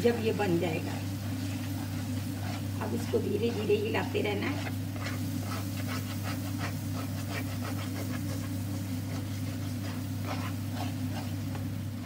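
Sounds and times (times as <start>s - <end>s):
spatula scraping in a pan: 0.0s - 12.0s
steady low hum: 0.0s - 12.0s.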